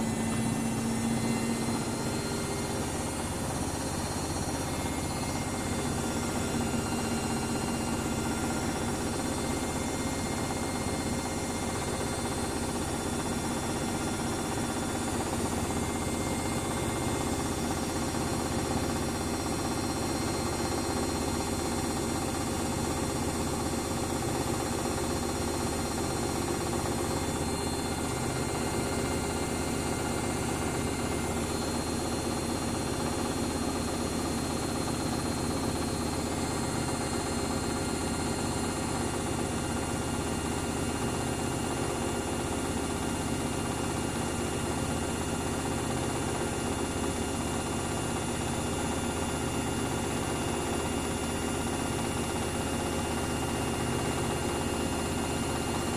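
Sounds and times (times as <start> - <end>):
washing machine spinning: 0.0 - 55.9.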